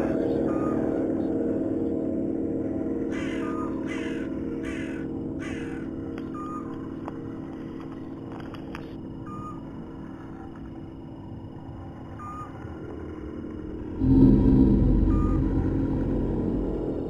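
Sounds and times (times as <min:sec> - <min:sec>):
low ambient drone: 0:00.0 - 0:17.0.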